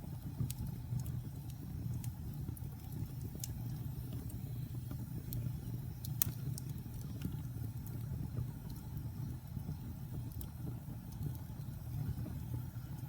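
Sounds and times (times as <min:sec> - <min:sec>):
fire rumble: 0:00.0 - 0:13.0
logs crackling and popping: 0:00.0 - 0:13.0.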